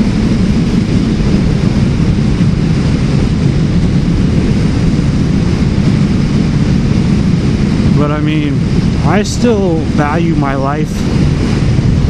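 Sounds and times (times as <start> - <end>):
motorcycle engine rumble: 0.0 - 12.0
wind rushing over microphone: 0.0 - 12.0.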